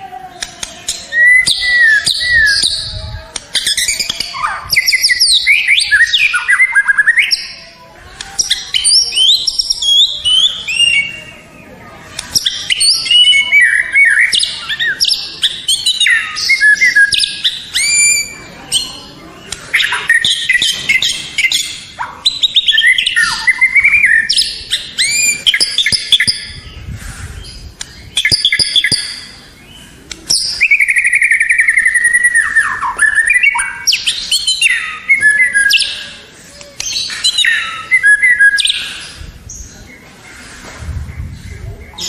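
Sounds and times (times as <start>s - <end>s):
songbird singing whistles and trills: 0.4s - 39.8s.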